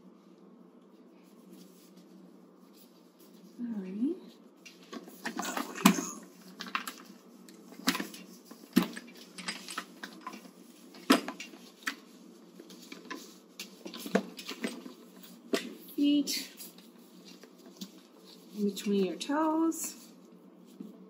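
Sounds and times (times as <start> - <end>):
soft cloth rustling: 0.0 - 21.0.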